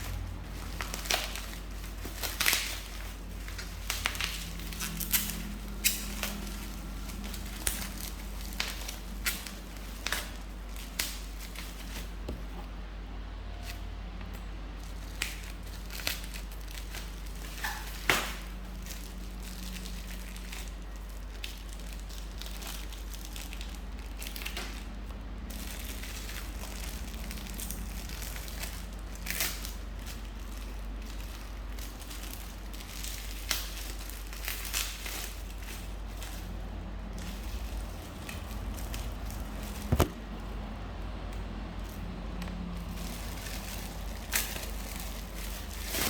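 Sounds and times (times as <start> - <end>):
packaging crinkling and rustling: 0.0 - 12.8, 14.8 - 40.5, 42.6 - 46.0.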